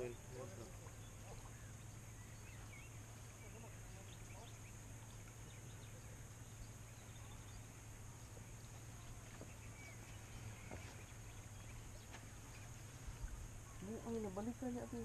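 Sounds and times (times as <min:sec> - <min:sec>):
faint low hum and hiss: 0:00.0 - 0:15.0.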